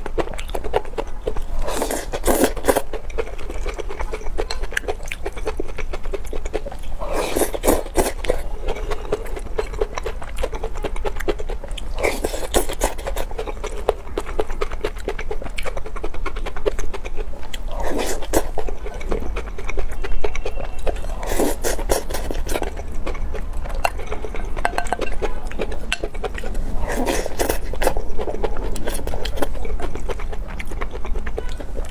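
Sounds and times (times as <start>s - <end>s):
low steady hum: 0.0s - 31.9s
wet chewing and slurping: 0.0s - 31.9s.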